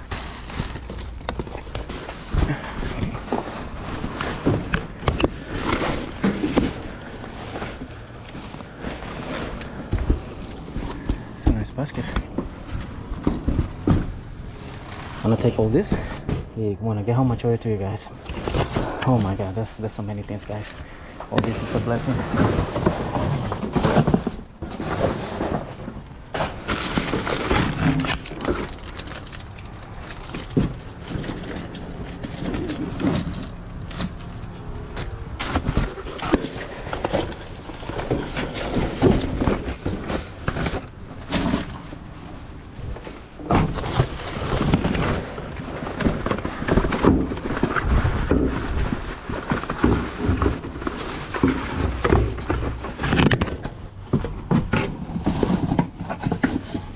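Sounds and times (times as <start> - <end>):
knocks and scrapes: 0.0 - 16.6, 18.2 - 56.9
rummaging in metal dumpster: 0.0 - 16.7, 17.8 - 56.9
crinkling: 0.0 - 56.9.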